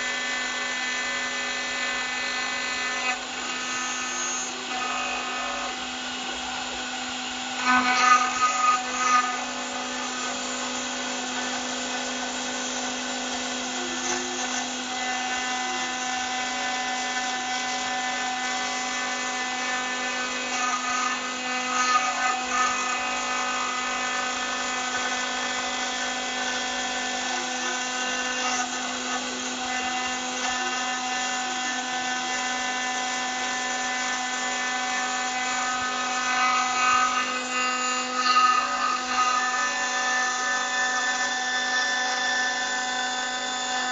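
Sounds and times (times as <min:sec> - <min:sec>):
cnc router spindle whine: 0:00.0 - 0:43.9.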